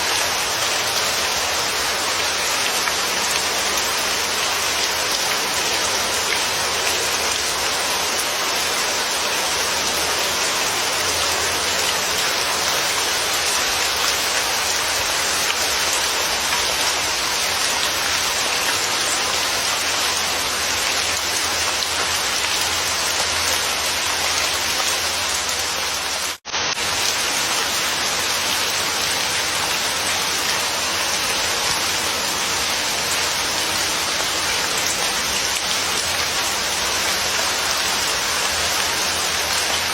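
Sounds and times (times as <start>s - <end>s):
dense rainfall hiss: 0.0s - 39.9s.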